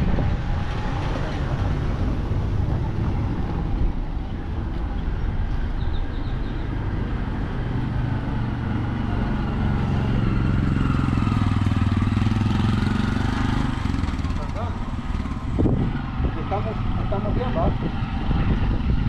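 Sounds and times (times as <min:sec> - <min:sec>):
road rumble: 0:00.0 - 0:19.0.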